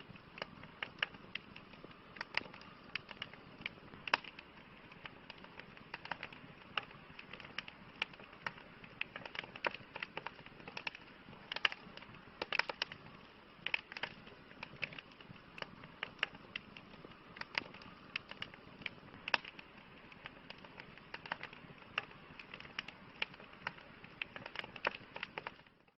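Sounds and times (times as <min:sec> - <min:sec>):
burning wood crackling and popping: 0:00.0 - 0:25.9
hiss of flames: 0:00.0 - 0:25.9.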